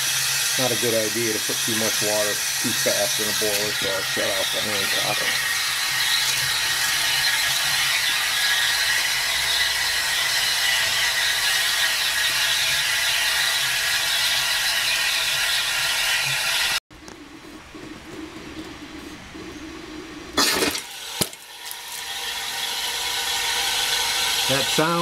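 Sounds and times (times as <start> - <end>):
steam injector rushing hiss: 0.0 - 16.8, 20.4 - 25.0.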